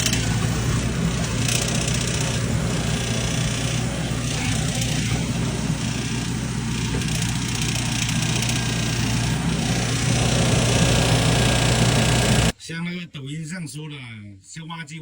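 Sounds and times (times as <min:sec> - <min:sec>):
excavator diesel engine: 0:00.0 - 0:12.6
loud hydraulic pump noise: 0:00.0 - 0:12.6.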